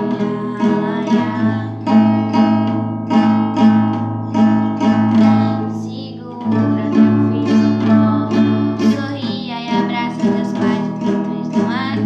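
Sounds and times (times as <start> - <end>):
person singing: 0.0 - 3.6, 4.3 - 12.0
acoustic guitar strumming: 0.0 - 12.0.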